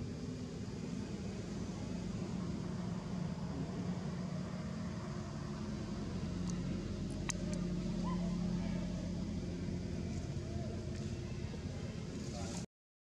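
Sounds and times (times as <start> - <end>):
low engine hum: 0.0 - 12.7.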